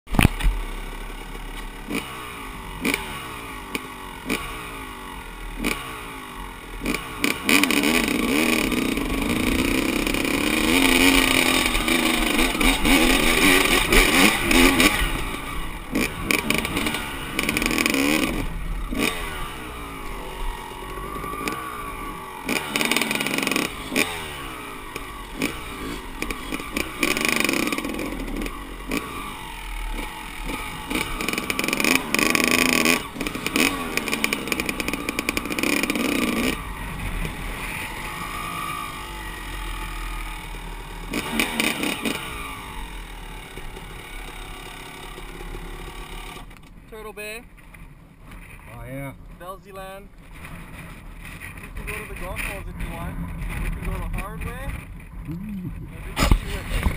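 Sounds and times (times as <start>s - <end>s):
dirt bike engines revving: 0.3s - 56.9s.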